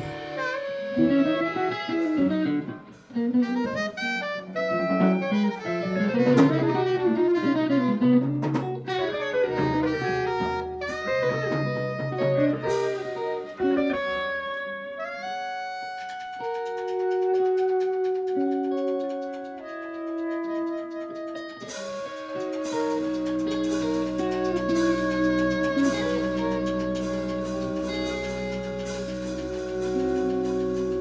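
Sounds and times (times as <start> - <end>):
jazz guitar: 0.0 - 31.0
light drums: 0.0 - 31.0
saxophone: 0.0 - 31.0
walking bass: 0.0 - 31.0.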